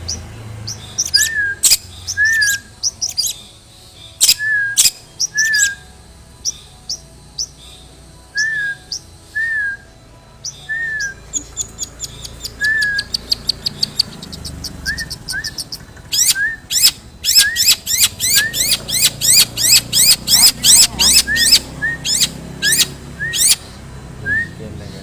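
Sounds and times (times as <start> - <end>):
shrike singing: 0.0 - 25.0.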